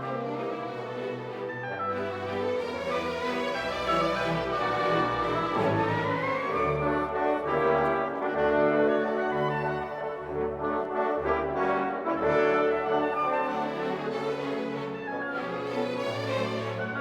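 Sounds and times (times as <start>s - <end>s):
orchestral music with brass: 0.0s - 17.0s.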